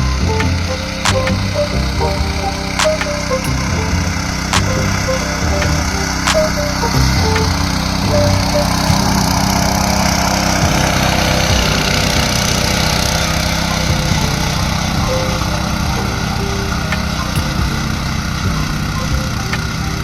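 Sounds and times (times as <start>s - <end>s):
power weeder engine running: 0.0s - 20.0s.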